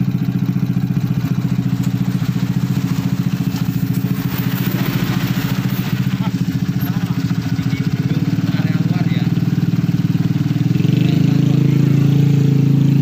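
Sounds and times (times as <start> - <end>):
small motorcycle engine idling: 0.0 - 13.0.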